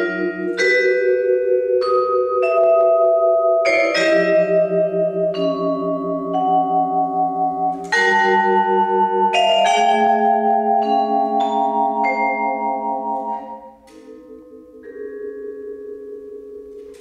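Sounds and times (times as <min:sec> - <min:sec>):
vibraphone chords: 0:00.0 - 0:17.0.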